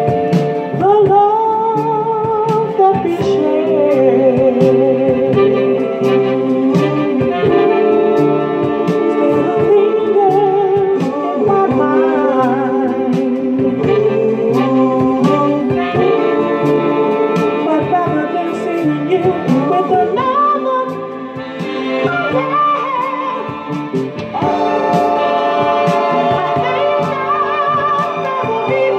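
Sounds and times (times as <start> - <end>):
soul ballad: 0.0 - 28.9
steady drum beat: 0.0 - 28.9.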